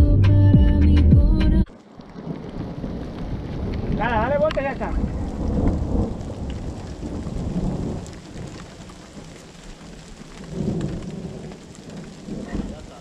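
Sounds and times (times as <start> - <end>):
rain falling: 1.7 - 13.0
raindrop taps: 1.7 - 13.0
low rumble of thunder: 2.0 - 13.0.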